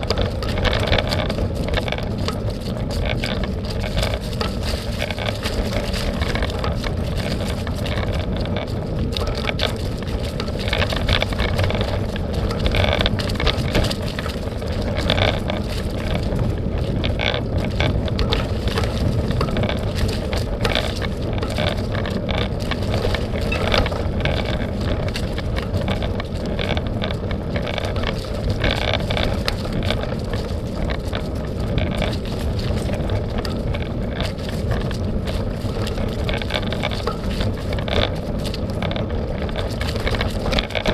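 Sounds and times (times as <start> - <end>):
bike rattling over bumps: 0.0 - 40.9
bike tyres rolling on dirt: 0.0 - 40.9
wind noise on microphone: 0.0 - 40.9.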